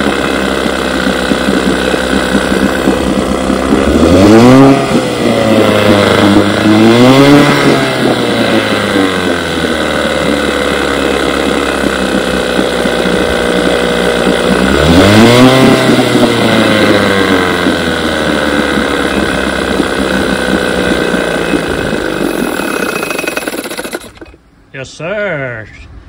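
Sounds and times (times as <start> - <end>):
outboard motor running: 0.0 - 25.2.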